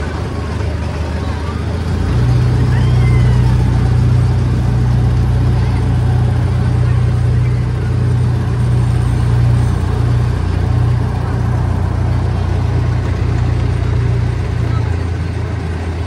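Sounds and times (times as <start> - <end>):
miniature train engine humming: 0.0 - 16.0
train rumbling on track: 0.0 - 16.0.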